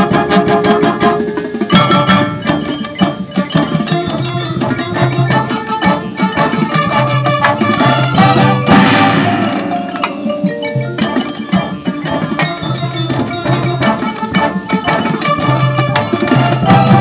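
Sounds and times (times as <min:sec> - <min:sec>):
drum and mallet strikes: 0:00.0 - 0:17.0
marching band playing: 0:00.0 - 0:17.0.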